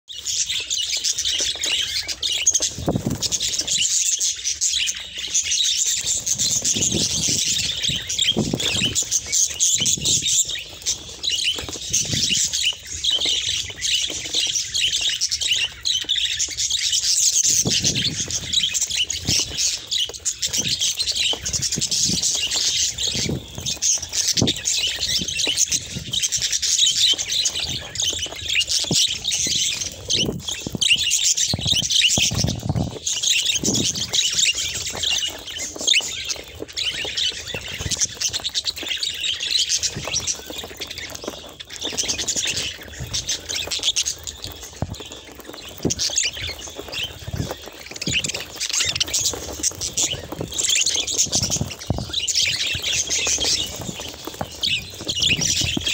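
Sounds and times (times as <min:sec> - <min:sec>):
budgerigars chattering: 0:00.1 - 0:55.9.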